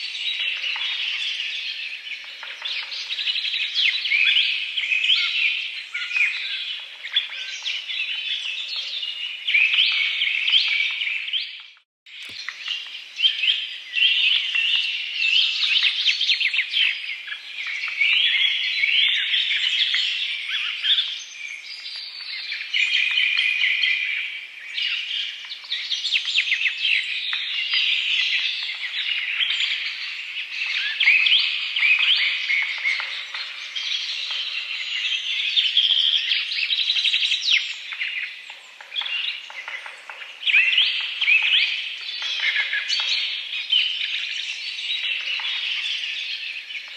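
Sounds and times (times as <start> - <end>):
small birds chirping and trilling: 0.0 - 46.9.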